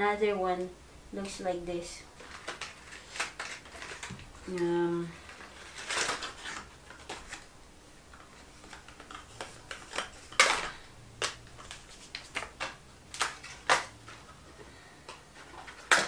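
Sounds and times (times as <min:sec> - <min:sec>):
cardboard packaging rustling: 0:02.1 - 0:07.5, 0:08.1 - 0:16.0.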